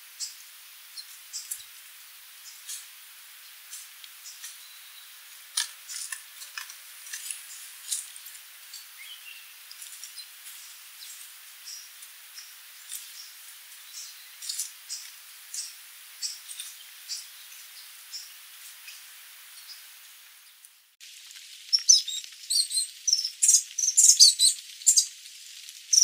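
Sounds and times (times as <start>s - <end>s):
steady hiss: 0.0s - 26.0s
bird chips and ticks: 0.2s - 19.9s, 20.6s - 26.0s.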